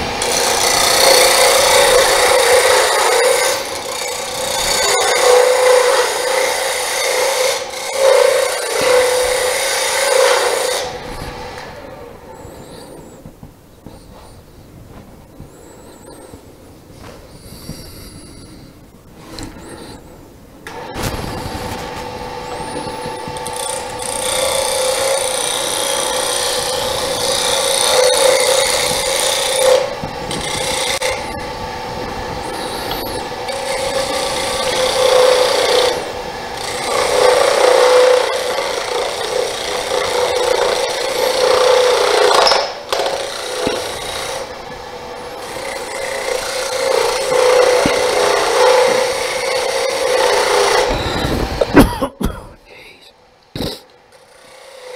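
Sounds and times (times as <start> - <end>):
lathe motor hum: 0.0 - 13.1, 20.6 - 51.8, 53.3 - 54.9
turning tool scraping wood: 0.0 - 20.1, 20.7 - 51.9.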